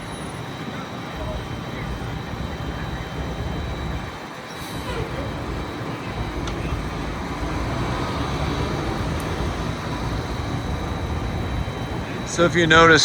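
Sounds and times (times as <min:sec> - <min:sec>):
heavy vehicle running: 0:00.0 - 0:13.0
street traffic noise: 0:00.0 - 0:13.0.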